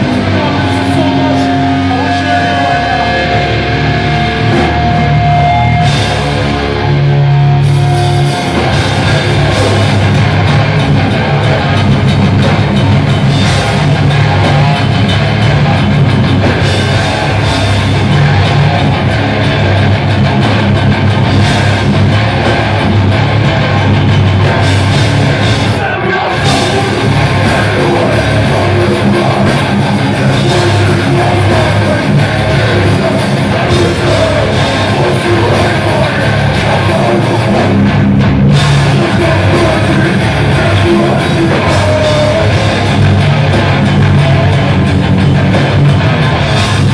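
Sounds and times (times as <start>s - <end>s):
bass guitar: 0.0s - 46.9s
distorted electric guitars: 0.0s - 46.9s
drum kit: 0.0s - 46.9s.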